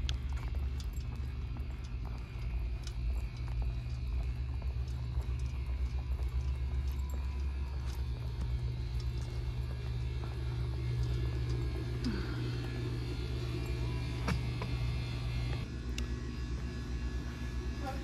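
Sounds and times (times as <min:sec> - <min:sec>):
equipment humming: 0:00.0 - 0:18.0.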